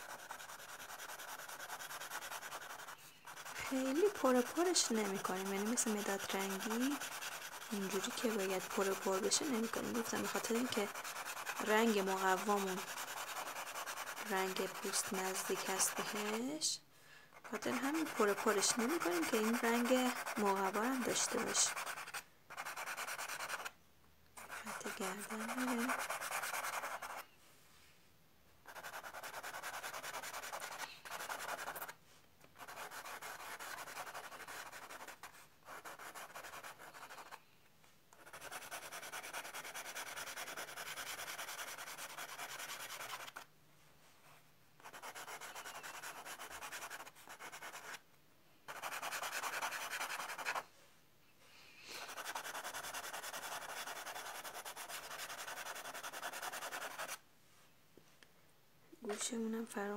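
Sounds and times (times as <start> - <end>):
pencil scratching on card: 0.0 - 16.6, 17.4 - 23.8, 24.4 - 27.2, 28.6 - 37.4, 38.1 - 43.5, 44.8 - 48.0, 48.7 - 50.7, 51.9 - 57.2.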